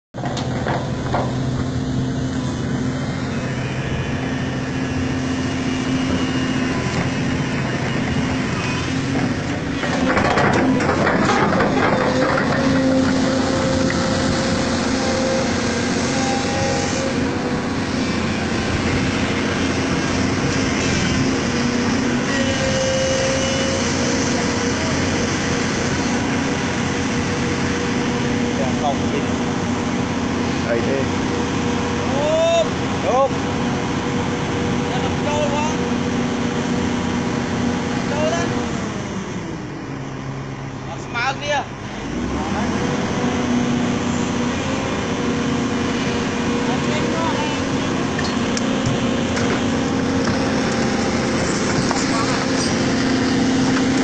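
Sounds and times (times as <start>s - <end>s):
excavator diesel engine running: 0.2s - 54.0s.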